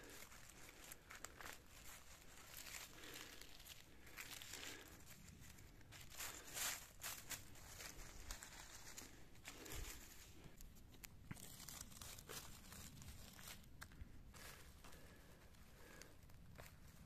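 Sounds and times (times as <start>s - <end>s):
dry leaves crinkling and rustling: 0.0s - 17.0s.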